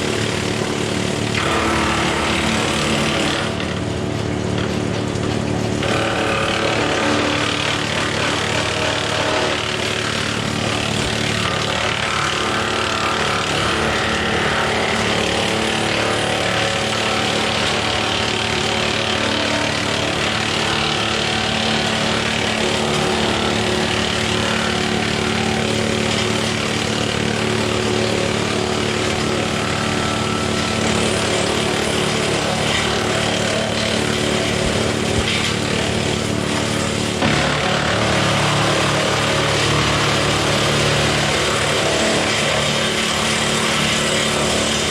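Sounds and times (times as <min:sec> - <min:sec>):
dense mechanical noise: 0:00.0 - 0:44.9.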